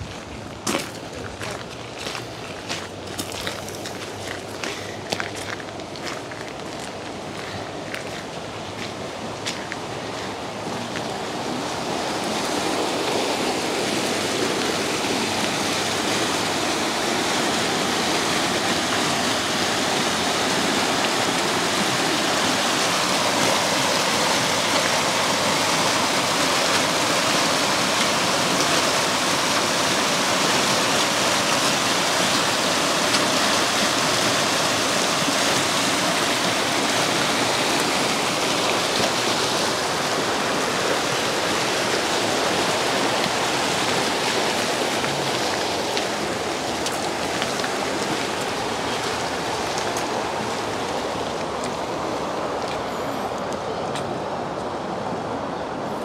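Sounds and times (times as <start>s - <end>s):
stream rushing: 0.0s - 56.0s.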